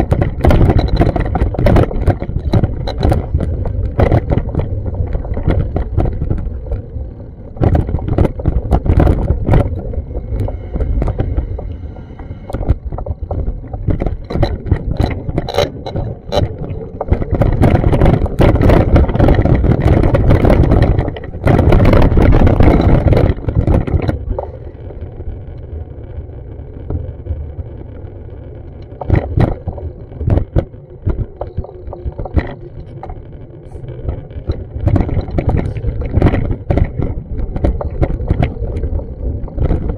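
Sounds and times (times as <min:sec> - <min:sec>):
sharp knocks and clicks: 0:00.0 - 0:06.8, 0:07.6 - 0:24.5, 0:28.8 - 0:33.3, 0:34.1 - 0:39.9
wind buffeting microphone: 0:00.0 - 0:27.9, 0:28.8 - 0:39.9.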